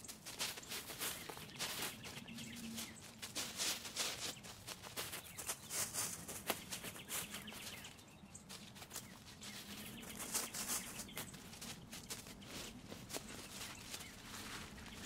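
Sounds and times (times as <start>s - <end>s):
dry leaves crackling underfoot: 0.0s - 15.0s.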